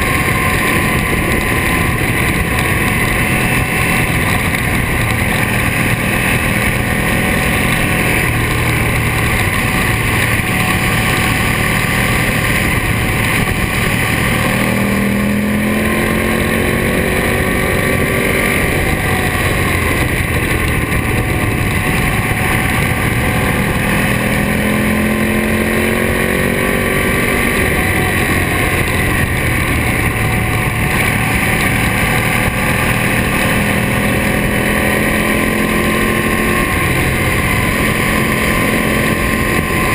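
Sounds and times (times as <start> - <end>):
motorcycle engine accelerating: 0.0 - 39.9
wind rush on microphone: 0.0 - 39.9.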